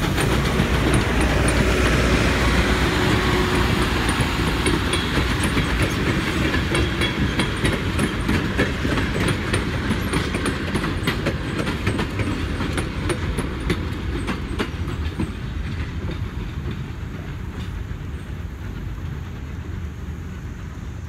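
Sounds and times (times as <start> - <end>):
train rumble: 0.0 - 21.0
train wheels clicking over rail joints: 0.0 - 21.0.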